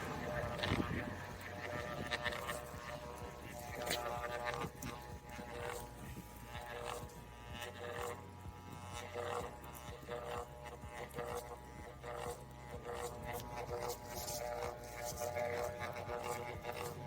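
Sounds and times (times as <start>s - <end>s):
orbital sander motor humming: 0.0s - 17.0s.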